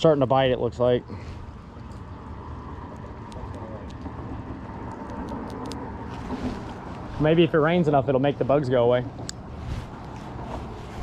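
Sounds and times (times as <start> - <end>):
steady low rumble: 0.5 - 11.0.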